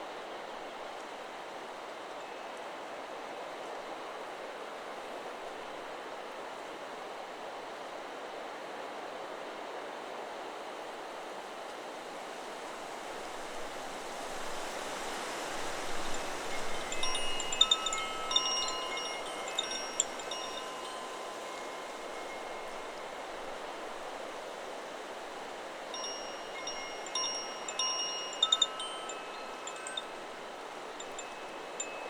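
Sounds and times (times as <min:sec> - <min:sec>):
wind rushing through trees: 0:00.0 - 0:32.0.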